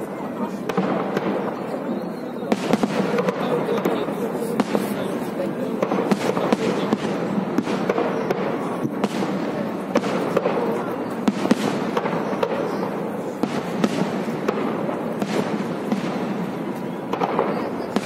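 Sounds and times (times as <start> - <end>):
firework bangs and pops: 0.0 - 18.0.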